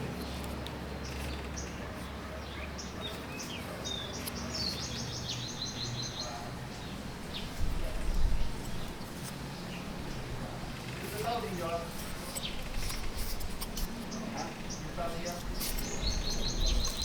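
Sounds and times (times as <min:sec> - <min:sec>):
low background noise: 0:00.0 - 0:17.0
small birds chirping: 0:00.2 - 0:17.0.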